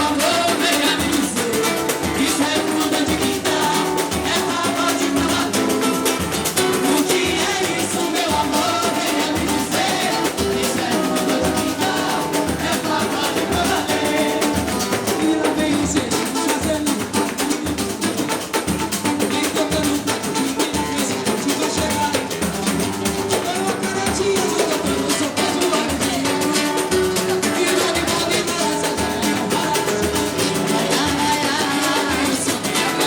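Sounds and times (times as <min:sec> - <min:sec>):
person singing: 0:00.0 - 0:22.6, 0:23.3 - 0:33.0
samba band playing: 0:00.0 - 0:33.0.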